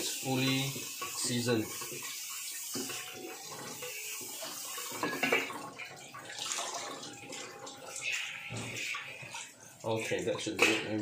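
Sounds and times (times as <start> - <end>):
tap water running into a sink: 0.0 - 11.0.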